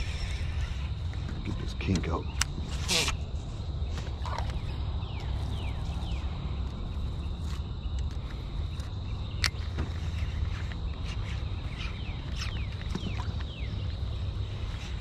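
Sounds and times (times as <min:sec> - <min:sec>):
birds calling with falling notes: 0:00.0 - 0:15.0
steady low rumble: 0:00.0 - 0:15.0.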